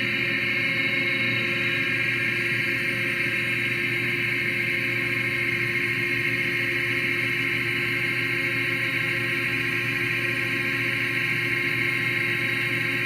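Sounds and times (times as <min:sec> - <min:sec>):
lathe running with steady whine: 0:00.0 - 0:13.0.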